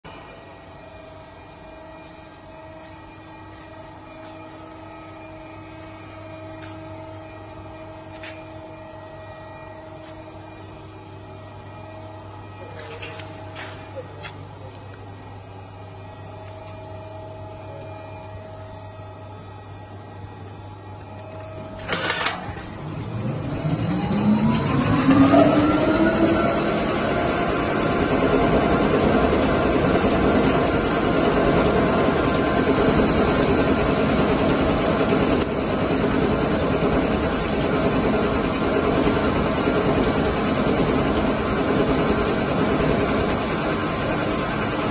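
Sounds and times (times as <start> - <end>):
lathe spindle whine rising: 0.0 - 14.0, 14.8 - 44.9
machinery humming: 0.1 - 44.9.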